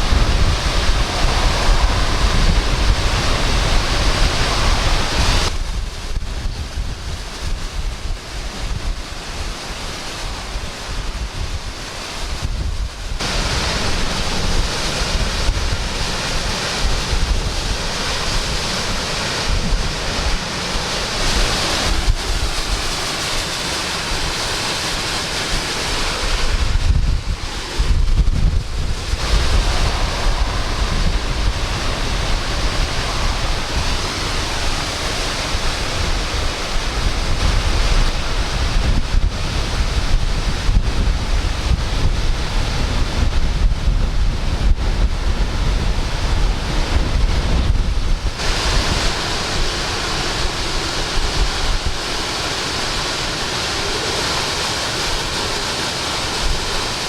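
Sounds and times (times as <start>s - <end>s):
high winds rushing: 0.0s - 57.0s
wind buffeting microphone: 0.0s - 57.0s.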